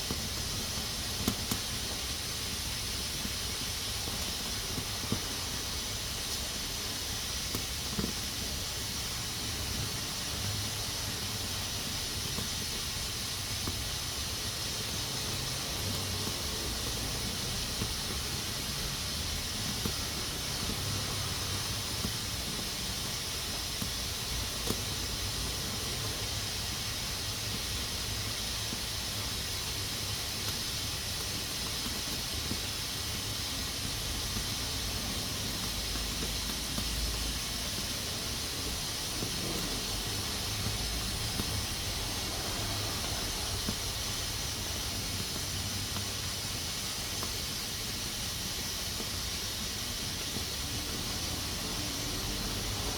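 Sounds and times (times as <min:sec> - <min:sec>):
pressure cooker valve hissing: 0:00.0 - 0:52.9.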